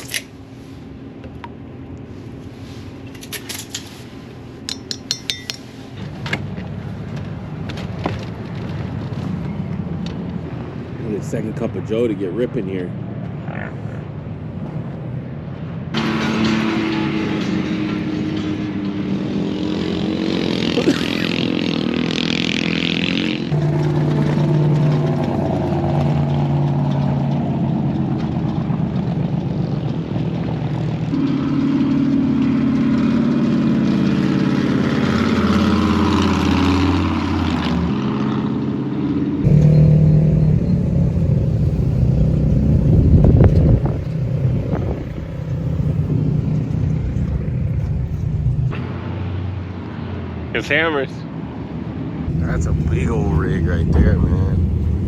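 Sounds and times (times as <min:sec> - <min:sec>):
off-road vehicle engines passing: 0:00.0 - 0:55.0.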